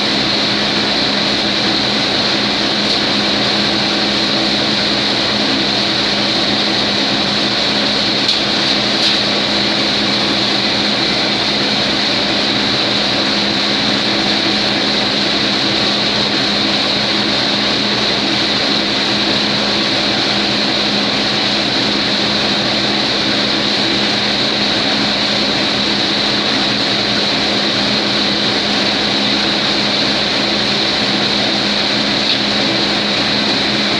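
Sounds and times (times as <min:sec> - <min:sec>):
machine humming with hiss: 0:00.0 - 0:33.9.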